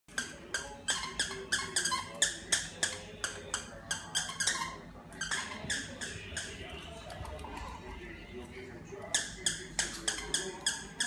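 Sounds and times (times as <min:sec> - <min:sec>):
dog toy squeaking: 0:00.1 - 0:07.8, 0:09.1 - 0:11.0.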